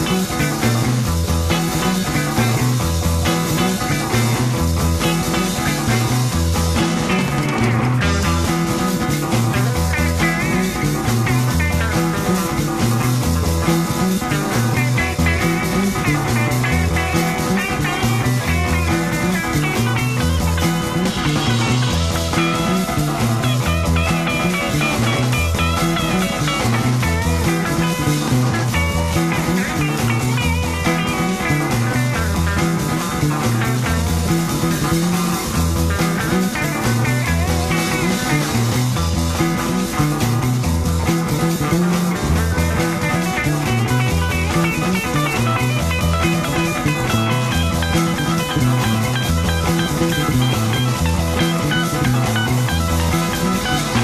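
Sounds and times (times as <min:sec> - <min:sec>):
repeating bass line: 0:00.0 - 0:54.0
rock guitar: 0:00.0 - 0:54.0.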